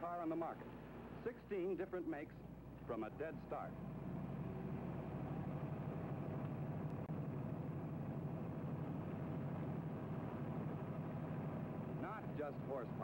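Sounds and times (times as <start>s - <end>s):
car engine droning under load: 2.4s - 13.0s.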